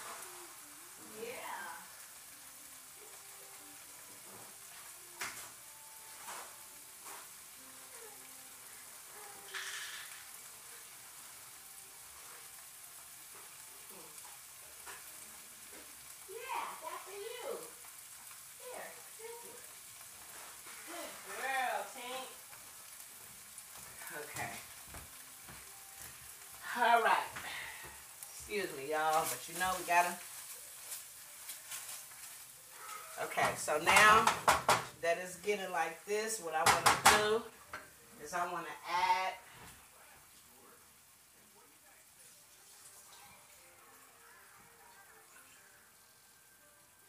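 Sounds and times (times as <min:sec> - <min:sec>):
sauce sizzling in a frying pan: 0:00.0 - 0:47.0.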